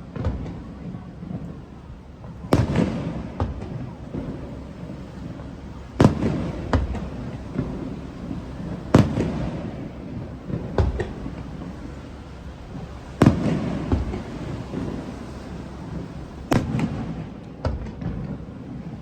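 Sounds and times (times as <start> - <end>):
fireworks booming: 0.0 - 19.0.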